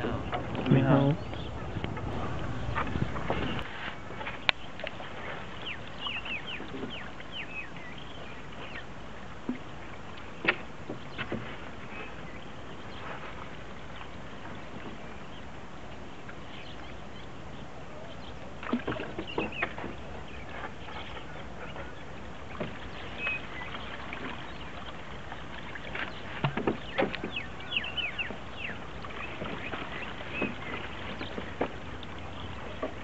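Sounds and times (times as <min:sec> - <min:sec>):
water splashing and dripping: 0:00.0 - 0:12.3, 0:18.6 - 0:33.0.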